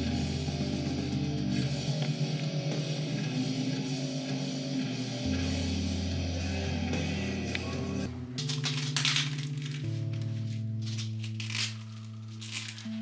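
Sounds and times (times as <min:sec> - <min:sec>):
background music with guitar: 0:00.0 - 0:13.0.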